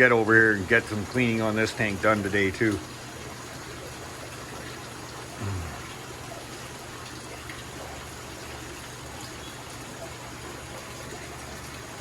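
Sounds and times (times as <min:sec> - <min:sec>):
aquarium water trickling: 0:00.0 - 0:12.0
low pump hum: 0:00.0 - 0:12.0.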